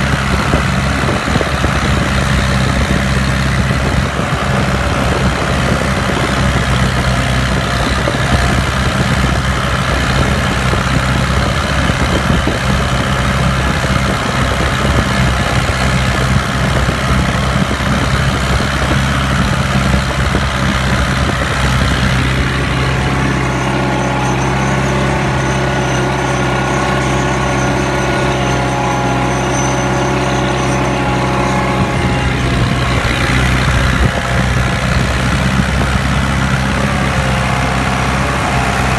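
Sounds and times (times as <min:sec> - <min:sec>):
tractor diesel engine: 0:00.0 - 0:38.9.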